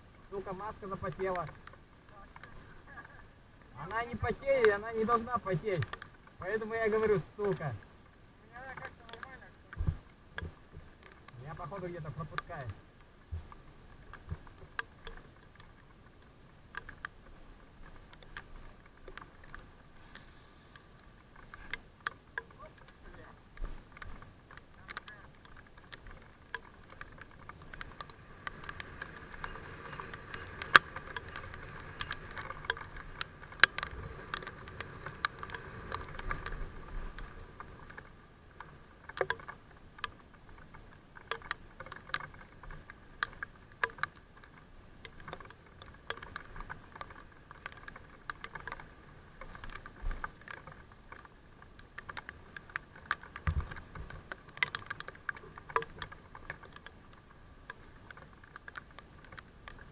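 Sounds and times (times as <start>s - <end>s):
faint steady hum: 0.0s - 59.9s
raindrops tapping: 0.2s - 59.9s.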